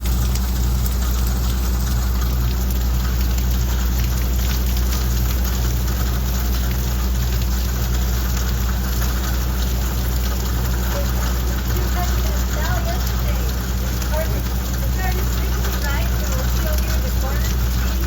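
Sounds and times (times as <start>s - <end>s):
engine idling: 0.0s - 18.0s
rain falling: 0.0s - 18.0s.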